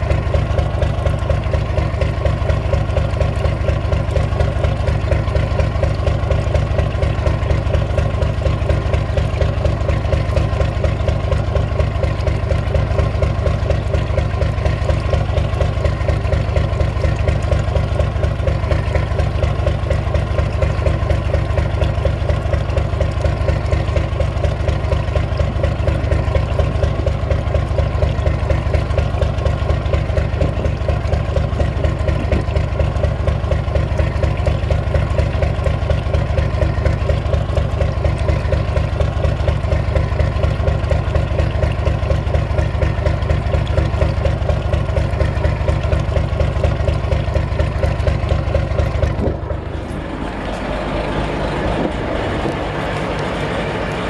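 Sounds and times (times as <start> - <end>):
diesel engine idling: 0.0 - 54.0
water splashing into sea: 0.0 - 54.0.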